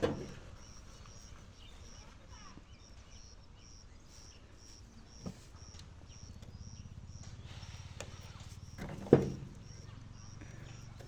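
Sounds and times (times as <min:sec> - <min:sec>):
faint high-pitched chirps: 0:00.5 - 0:11.0.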